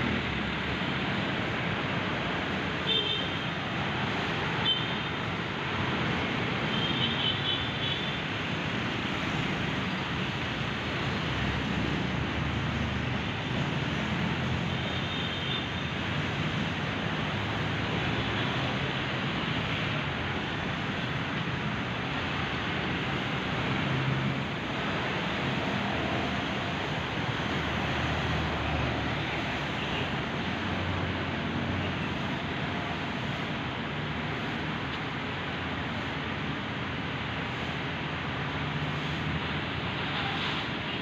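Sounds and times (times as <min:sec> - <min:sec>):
traffic on wet road: 0:00.0 - 0:41.0.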